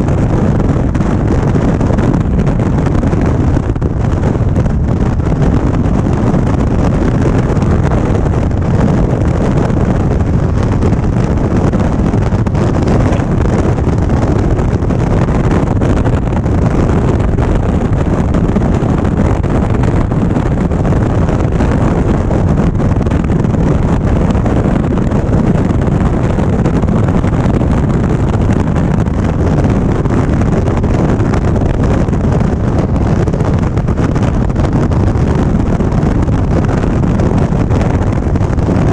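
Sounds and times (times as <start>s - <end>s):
motorcycle running: 0.0s - 38.9s
wind rushing over microphone: 0.0s - 38.9s.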